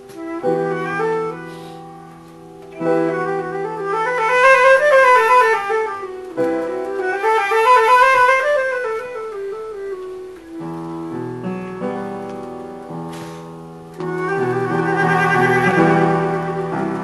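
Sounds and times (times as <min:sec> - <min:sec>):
flute playing quick runs: 0:00.0 - 0:10.7, 0:14.0 - 0:17.0
piano low chords: 0:00.0 - 0:17.0.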